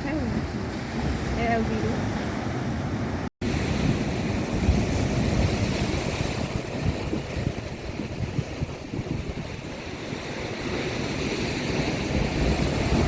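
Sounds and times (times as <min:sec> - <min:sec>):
sea surf washing on shore: 0:00.0 - 0:13.0
wind buffeting microphone: 0:00.0 - 0:13.0.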